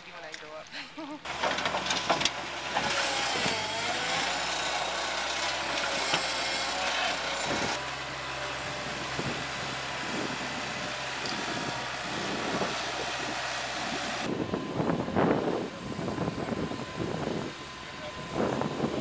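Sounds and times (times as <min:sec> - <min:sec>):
loader engine running: 0:01.2 - 0:19.0.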